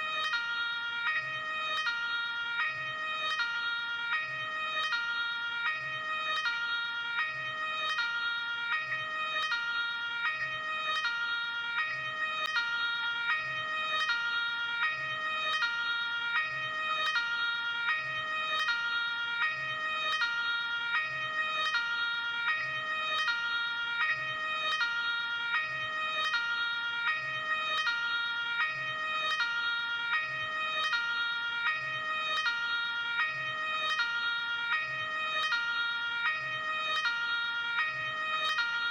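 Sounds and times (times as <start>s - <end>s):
ambulance two-tone siren: 0.0s - 38.9s.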